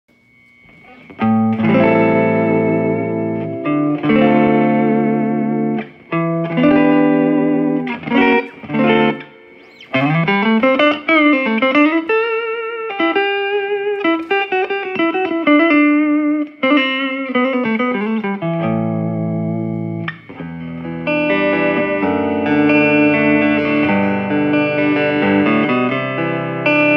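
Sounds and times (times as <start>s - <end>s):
electric guitar through amp: 0.1s - 26.9s.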